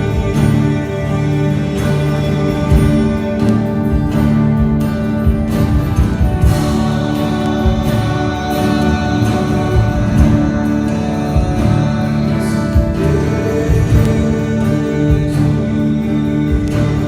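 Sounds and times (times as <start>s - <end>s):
guitar over held chords: 0.0s - 17.0s
steady drum beat: 0.0s - 17.0s
worship band music: 0.0s - 17.0s.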